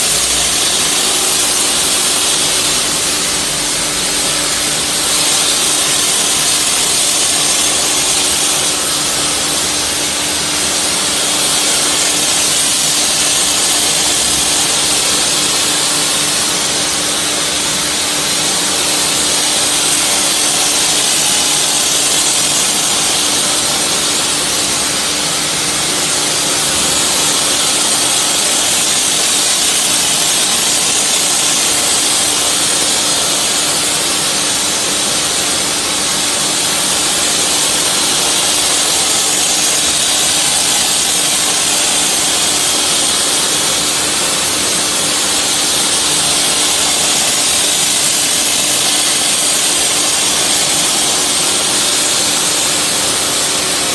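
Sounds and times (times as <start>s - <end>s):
machine humming and hissing: 0.0s - 53.9s.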